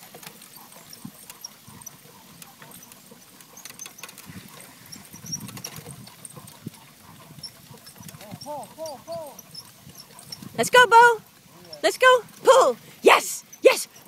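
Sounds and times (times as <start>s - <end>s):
dog paws padding on dirt: 0.0s - 12.8s
cart harness rattling: 0.0s - 14.0s.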